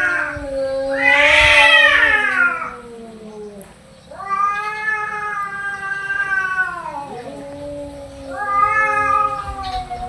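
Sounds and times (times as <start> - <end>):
cats yowling: 0.0 - 10.0.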